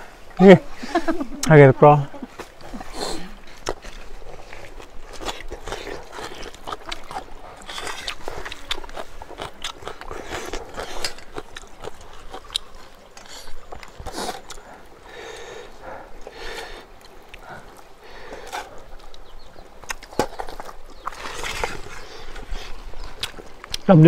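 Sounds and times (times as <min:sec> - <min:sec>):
crunchy chewing: 0:02.3 - 0:24.0.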